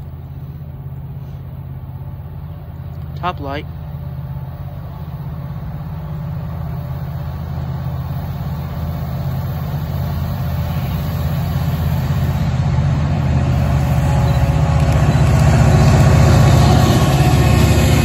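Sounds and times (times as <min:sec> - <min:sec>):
locomotive engine drone: 0:00.0 - 0:18.0.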